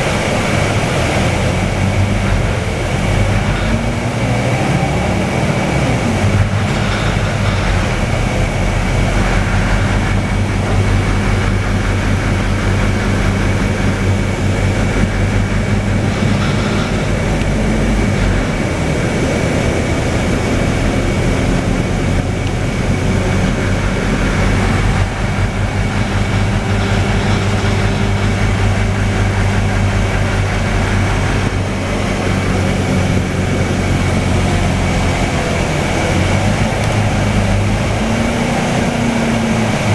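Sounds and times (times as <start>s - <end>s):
bus diesel engine droning: 0.0s - 39.9s
road noise: 0.0s - 39.9s
thin high whine: 0.0s - 39.9s.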